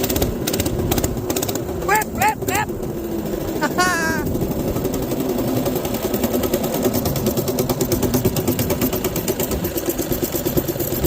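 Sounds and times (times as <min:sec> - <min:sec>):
minibike engine running: 0:00.0 - 0:11.0.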